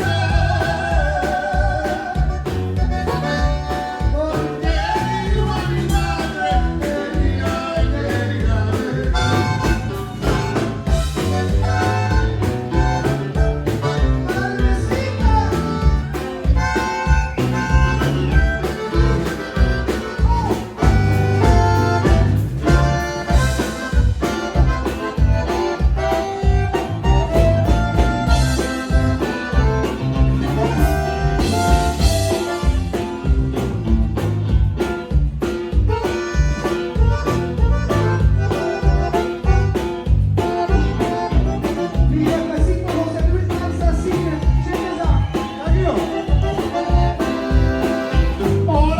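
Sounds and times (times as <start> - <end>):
accordion melody: 0.0 - 48.9
bass and drum beat: 0.0 - 48.9
live band music: 0.0 - 48.9.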